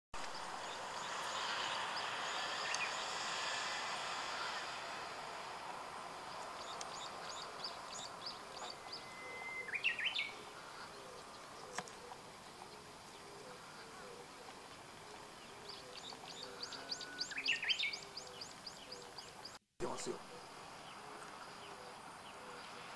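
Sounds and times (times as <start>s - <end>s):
faint background noise: 0.2s - 22.9s
songbird singing: 0.2s - 22.9s.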